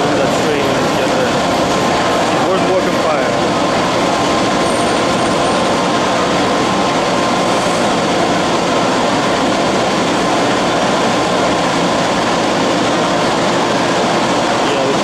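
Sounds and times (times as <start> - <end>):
faint steady whine: 0.0 - 15.0
subway train wheels rumbling on rail: 0.0 - 15.0.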